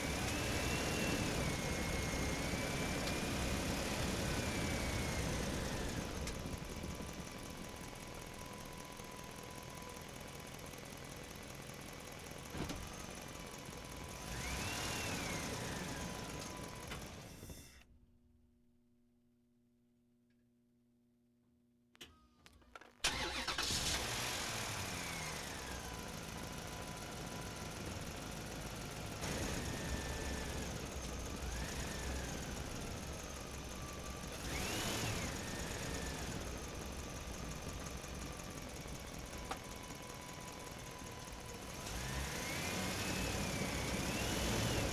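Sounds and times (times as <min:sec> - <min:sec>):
engine running: 0:00.0 - 0:17.5, 0:23.0 - 0:44.9.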